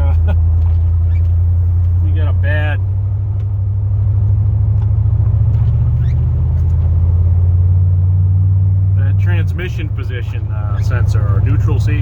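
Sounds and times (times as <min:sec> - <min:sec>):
pickup engine drone from cab: 0:00.0 - 0:12.0.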